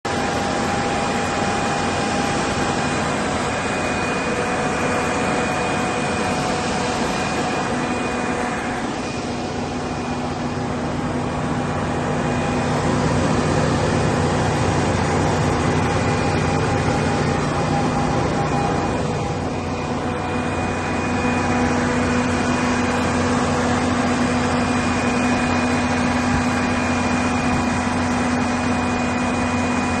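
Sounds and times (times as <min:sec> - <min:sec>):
generator running: 0:00.0 - 0:30.0.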